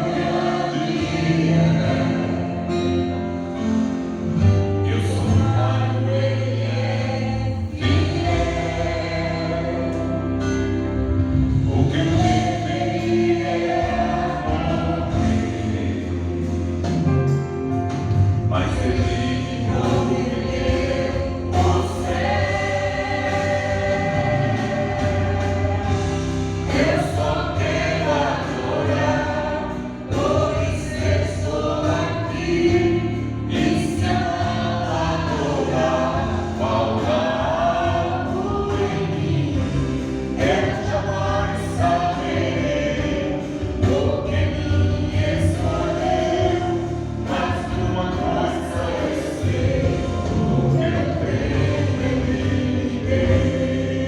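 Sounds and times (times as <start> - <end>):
voices singing gospel song: 0.0 - 54.0.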